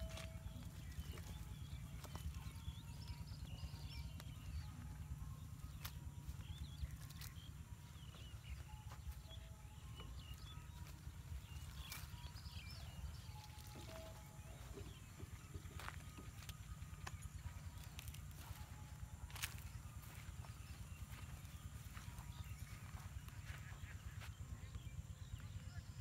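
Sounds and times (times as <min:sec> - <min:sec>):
bird chirps: 0:00.0 - 0:26.0.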